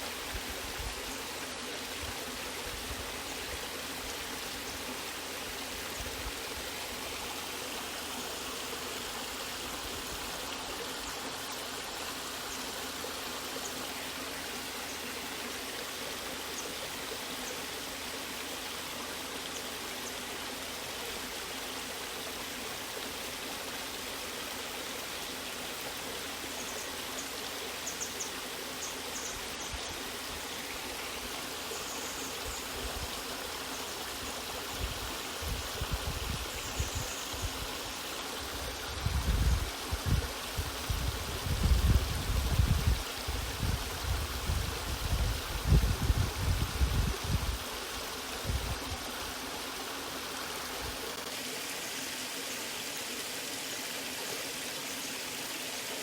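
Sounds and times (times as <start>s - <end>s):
waterfall and stream rushing: 0.0s - 56.0s.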